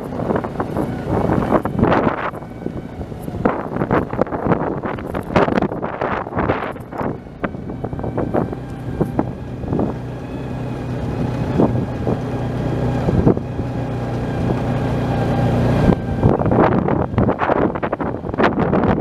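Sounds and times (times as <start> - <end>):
knocks and rattles of bouncing vehicle: 0.0 - 19.0
vehicle engine running: 0.0 - 19.0.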